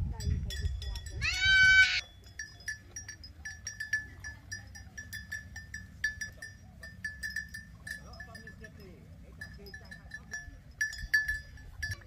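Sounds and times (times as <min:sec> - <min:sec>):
cow bell clinking: 0:00.1 - 0:12.0.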